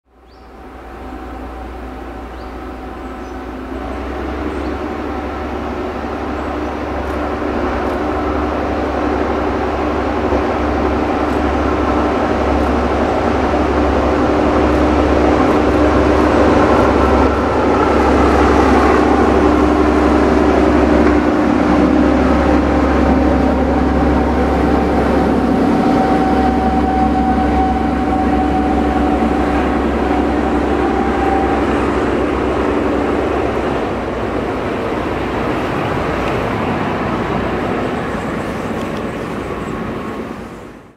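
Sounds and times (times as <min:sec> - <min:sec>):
diesel locomotives passing: 0:00.0 - 0:40.9.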